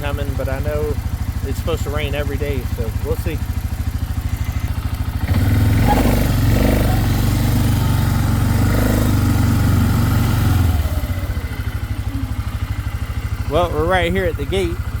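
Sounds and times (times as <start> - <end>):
four-wheeler engine revving: 0.0 - 15.0.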